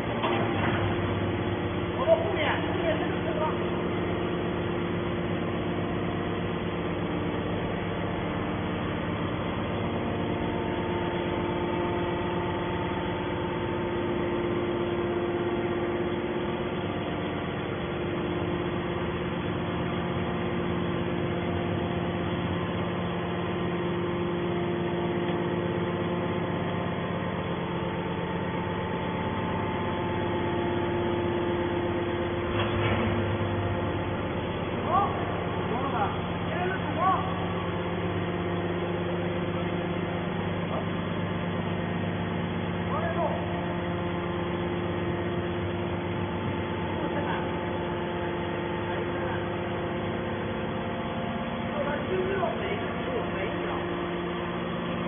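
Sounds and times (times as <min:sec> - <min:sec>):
hydraulic motor and pump humming: 0:00.0 - 0:55.0.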